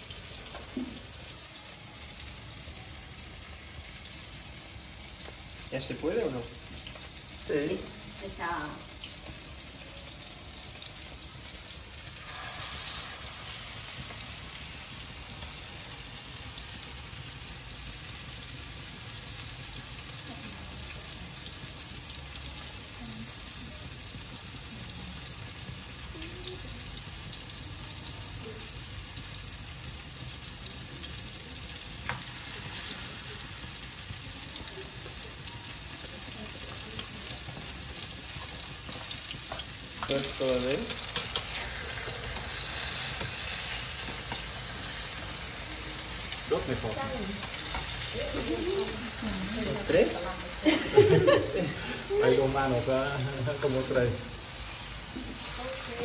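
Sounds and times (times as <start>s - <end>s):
food sizzling in hot oil: 0.0s - 56.0s.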